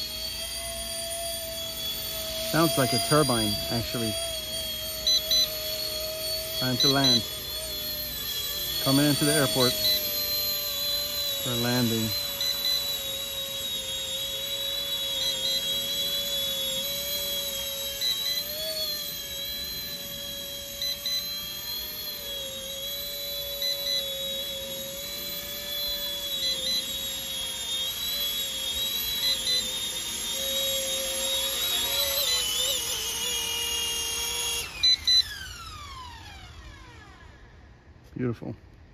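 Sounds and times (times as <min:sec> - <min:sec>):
rc helicopter whine: 0:00.0 - 0:38.9.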